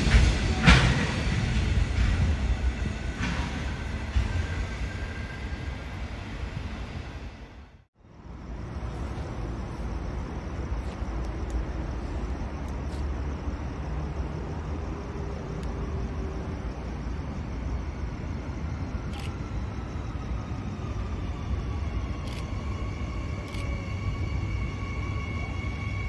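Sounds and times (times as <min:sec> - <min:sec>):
distant electric train rumble: 0:00.0 - 0:26.0.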